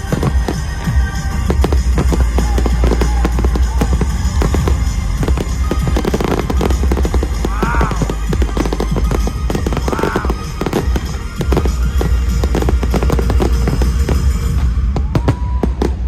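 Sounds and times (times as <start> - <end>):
fireworks bangs and crackles: 0.0 - 16.0
loud show music with heavy bass: 0.0 - 16.0.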